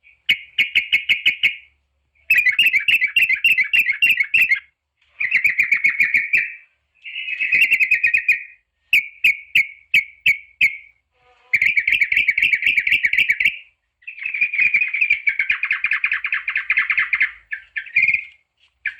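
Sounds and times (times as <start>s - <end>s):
bird chirping: 0.0s - 18.9s
bird bubbling chatter: 2.3s - 4.6s, 5.2s - 10.8s, 11.6s - 18.9s.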